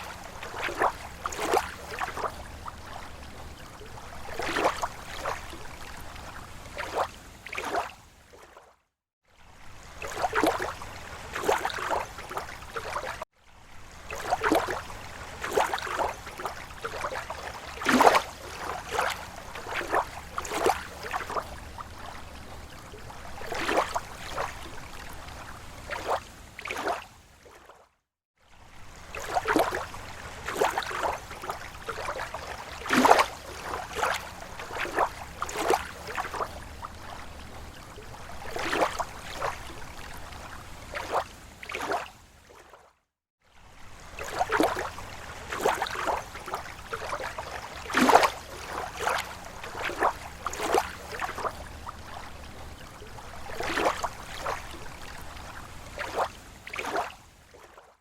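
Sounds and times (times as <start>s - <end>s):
lake water lapping at shore: 0.0s - 58.0s.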